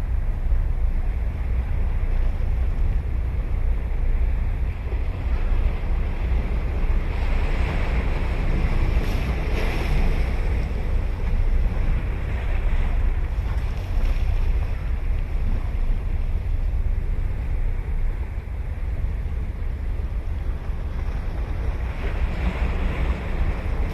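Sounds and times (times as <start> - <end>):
wind buffeting microphone: 0.0 - 23.9
ocean surf breaking: 1.0 - 23.9.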